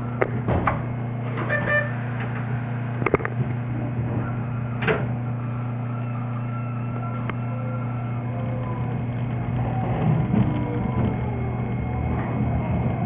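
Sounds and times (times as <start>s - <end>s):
electric train hum: 0.0s - 13.0s.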